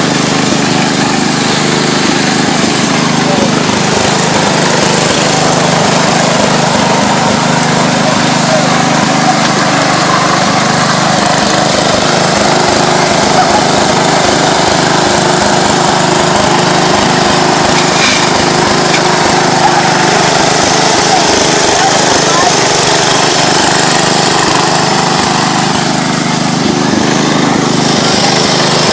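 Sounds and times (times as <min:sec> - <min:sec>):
lawn tractor engine running: 0:00.0 - 0:28.9.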